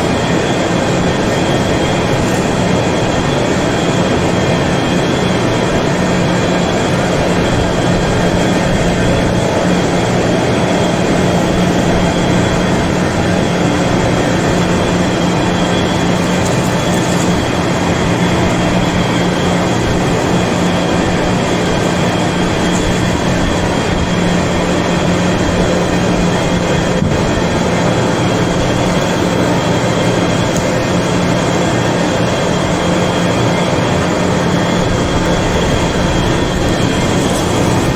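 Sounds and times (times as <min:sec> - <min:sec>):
lathe machine drone: 0:00.0 - 0:37.9.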